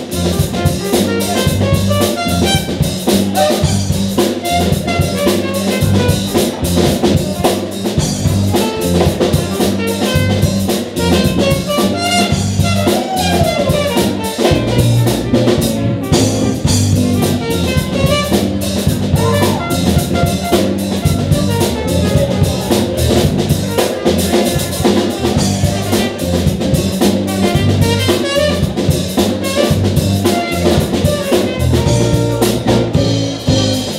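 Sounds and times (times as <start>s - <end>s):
drum kit beat: 0.0s - 33.9s
electric guitar: 0.0s - 33.9s
horn section playing: 0.0s - 33.9s.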